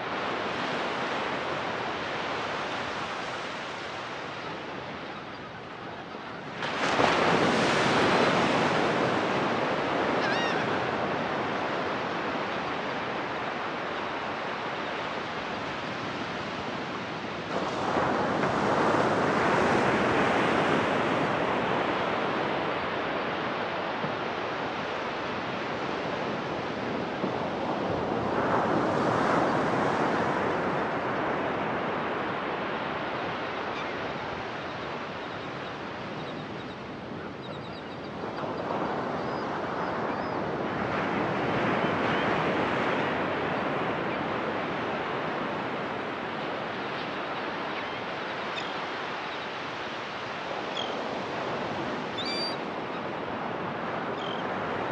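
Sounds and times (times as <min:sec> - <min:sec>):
ocean waves washing: 0:06.4 - 0:54.9.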